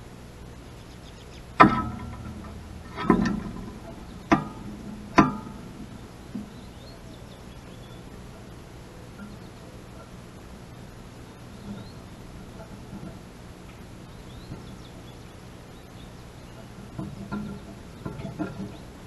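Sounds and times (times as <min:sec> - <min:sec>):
metal hanger ringing: 0:01.6 - 0:19.0.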